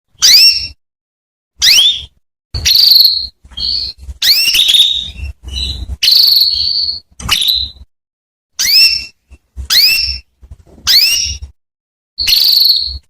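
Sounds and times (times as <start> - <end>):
canary chirps and buzzy trills: 0.1 - 0.8, 1.6 - 7.9, 8.6 - 11.6, 12.2 - 13.0.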